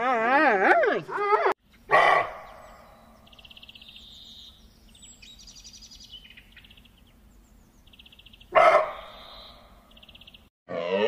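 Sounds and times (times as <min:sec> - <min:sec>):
birds trilling and chirping: 0:01.6 - 0:10.5.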